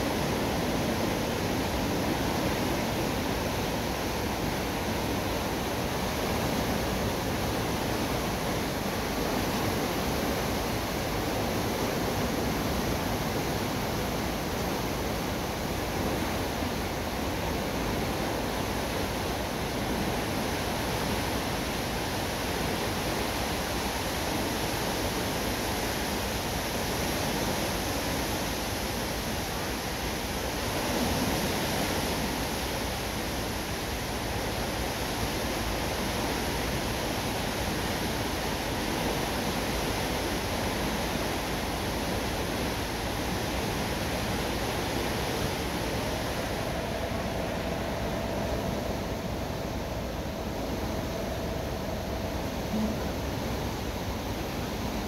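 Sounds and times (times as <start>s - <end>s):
water rushing through sluices: 0.0s - 55.0s.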